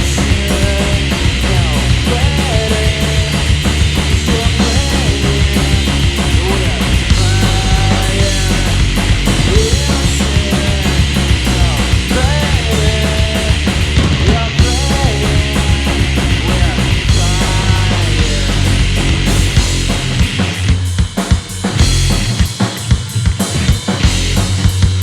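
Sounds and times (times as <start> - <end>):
bending pitched vocal lines: 0.0 - 20.2
bass guitar: 0.0 - 25.0
drum kit beat: 0.0 - 25.0.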